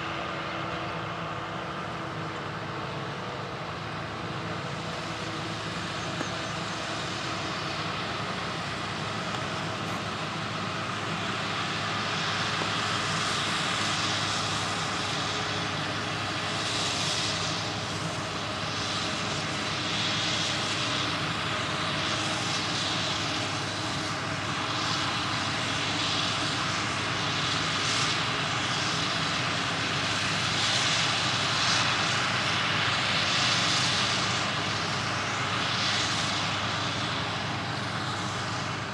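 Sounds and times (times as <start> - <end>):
heavy machine drone: 0.0 - 38.9.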